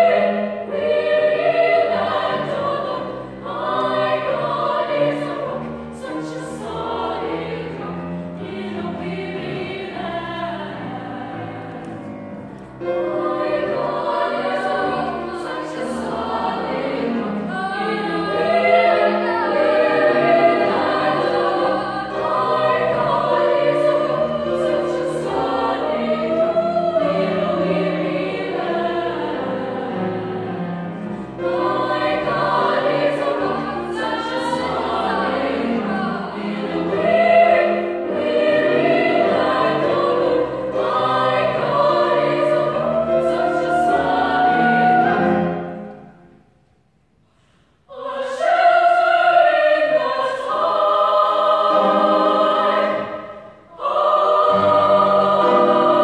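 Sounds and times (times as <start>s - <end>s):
women's choir singing: 0.0s - 46.4s, 47.8s - 56.0s.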